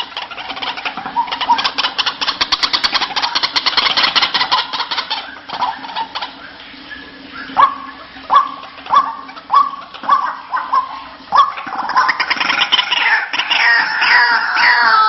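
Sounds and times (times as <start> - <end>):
faint steady low hum: 0.0 - 15.0
waterhen calling: 0.0 - 15.0.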